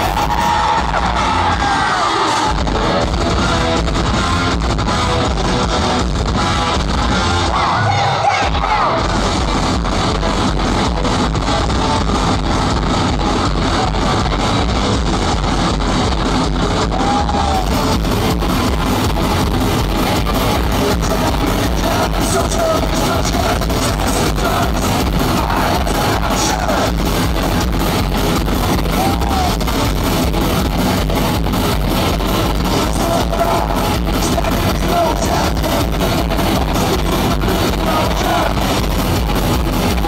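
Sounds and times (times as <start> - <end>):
driving drum beat: 0.0 - 7.6, 8.5 - 40.0
electric guitar: 0.0 - 40.0.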